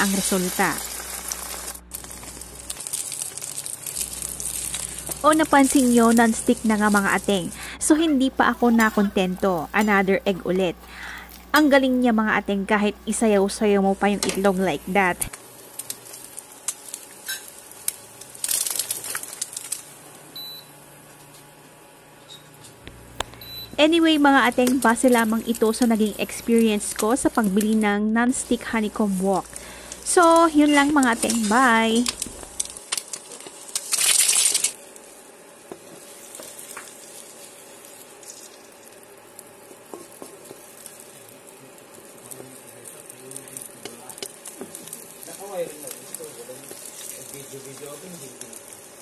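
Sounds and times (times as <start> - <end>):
oil popping and crackling: 0.0 - 10.1, 13.5 - 20.2, 24.0 - 49.0
egg frying in hot oil: 0.0 - 49.0.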